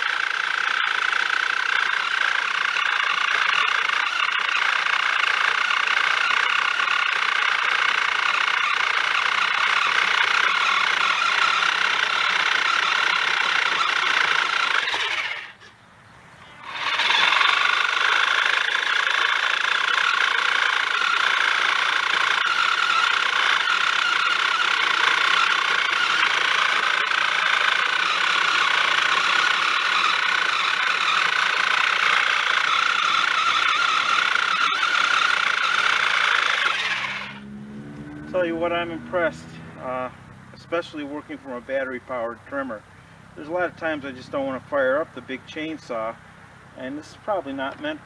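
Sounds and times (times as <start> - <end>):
pole saw high whine: 0.0 - 15.7, 16.5 - 42.8.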